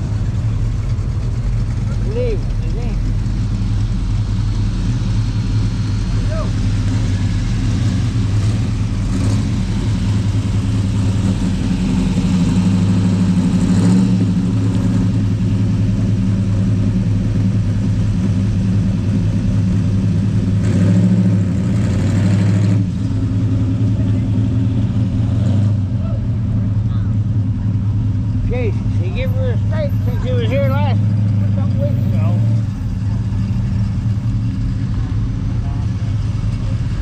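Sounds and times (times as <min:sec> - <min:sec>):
car engine droning: 0:00.0 - 0:37.0
cars passing: 0:00.0 - 0:37.0.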